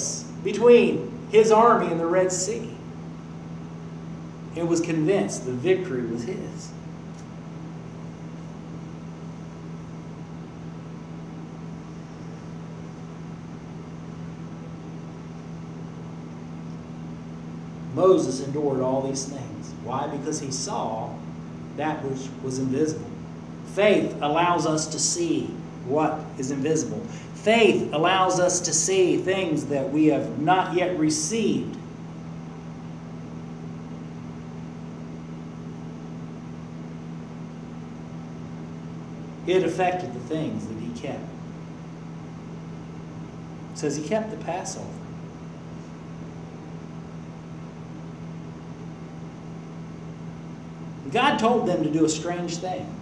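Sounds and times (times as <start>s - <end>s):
air conditioning hum: 0.0s - 53.0s.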